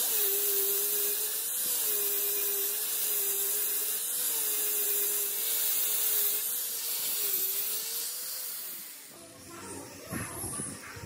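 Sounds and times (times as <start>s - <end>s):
abrasive hissing on metal: 0.0s - 11.0s
angle grinder motor whine: 0.0s - 11.0s.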